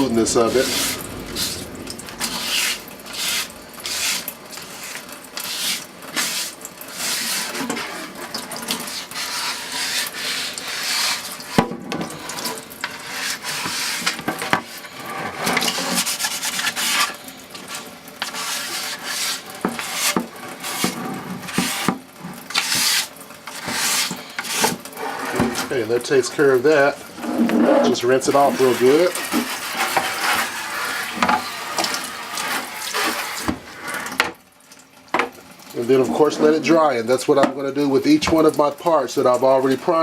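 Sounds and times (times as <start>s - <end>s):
wet sanding strokes: 0.0s - 26.9s, 27.6s - 34.0s.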